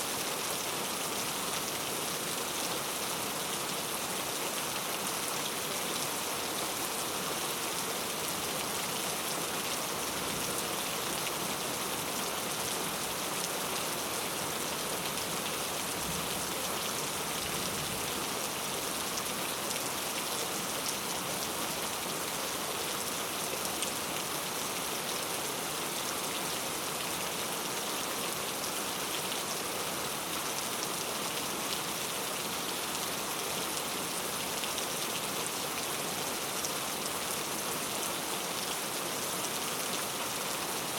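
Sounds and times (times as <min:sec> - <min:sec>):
heavy rain on hard surfaces: 0:00.0 - 0:40.9.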